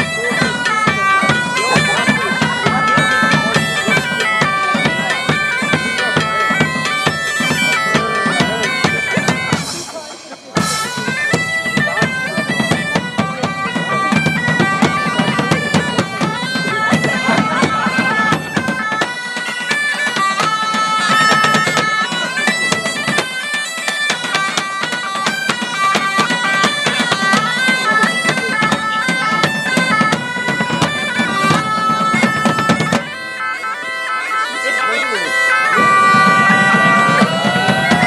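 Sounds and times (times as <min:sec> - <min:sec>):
drums beaten with sticks: 0:00.0 - 0:33.2, 0:35.7 - 0:38.0
bagpipes playing a lively tune: 0:00.0 - 0:38.0.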